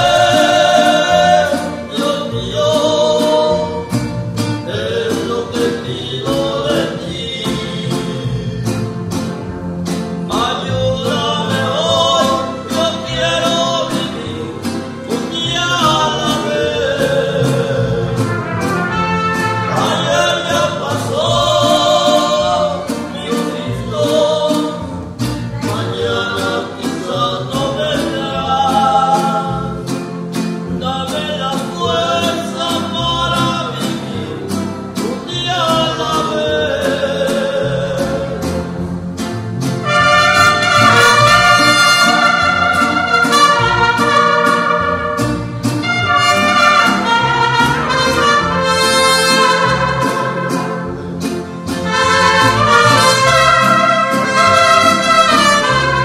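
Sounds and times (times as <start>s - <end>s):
people singing: 0.0s - 3.9s, 4.6s - 9.1s, 10.3s - 29.9s, 30.8s - 38.8s, 39.8s - 45.2s, 45.8s - 50.9s, 51.7s - 56.0s
bass guitar line: 0.0s - 56.0s
strummed guitars: 0.0s - 56.0s.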